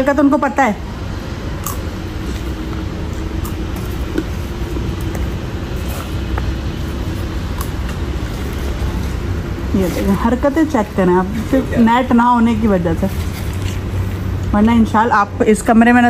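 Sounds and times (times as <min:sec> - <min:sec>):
faint steady hum: 0:00.0 - 0:16.0
street traffic rumble: 0:00.0 - 0:16.0.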